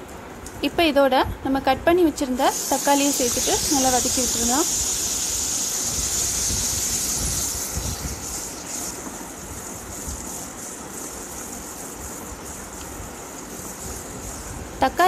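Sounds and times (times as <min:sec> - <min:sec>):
vegetables sizzling in hot oil: 0:02.2 - 0:15.0.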